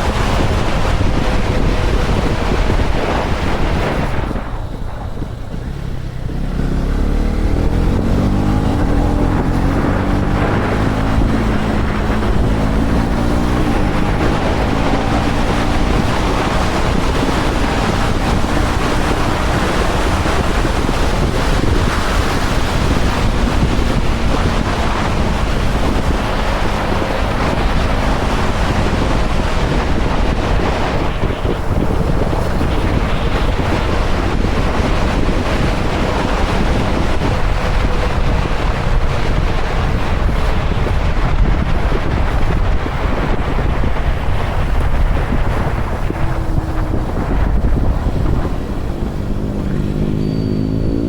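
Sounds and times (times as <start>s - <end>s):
motorcycle engine: 0.0s - 51.0s
wind rushing over microphone: 0.0s - 51.0s.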